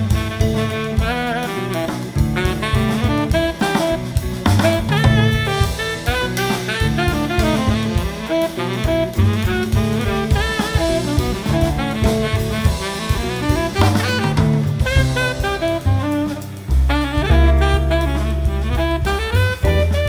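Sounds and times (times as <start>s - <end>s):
acoustic bass: 0.0s - 20.0s
drum kit: 0.0s - 20.0s
guitar: 0.0s - 20.0s
tenor saxophone: 0.0s - 20.0s.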